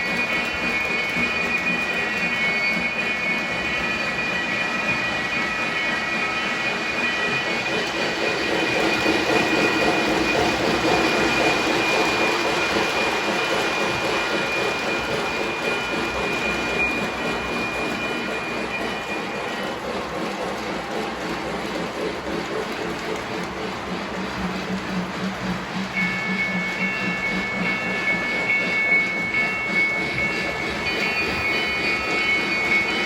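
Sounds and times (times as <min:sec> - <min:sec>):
model train rumbling on track: 0:00.0 - 0:33.0.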